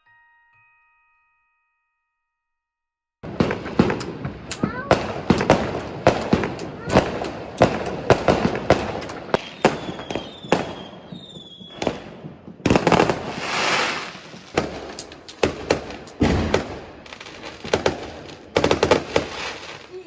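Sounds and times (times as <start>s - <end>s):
firework bangs: 3.2s - 20.0s
hissing crackle of fireworks: 3.2s - 20.0s
whistling fireworks: 3.2s - 20.0s.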